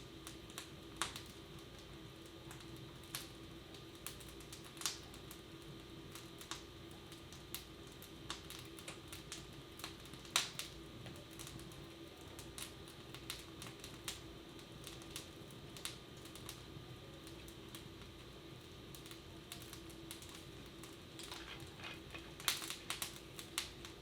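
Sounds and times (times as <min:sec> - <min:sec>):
low room hum: 0:00.0 - 0:24.0
wood fire crackling and popping: 0:00.0 - 0:24.0.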